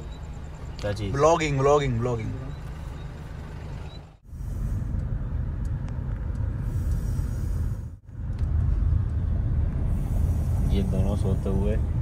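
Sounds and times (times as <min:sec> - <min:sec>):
car rumbling on the move: 0:00.0 - 0:12.0.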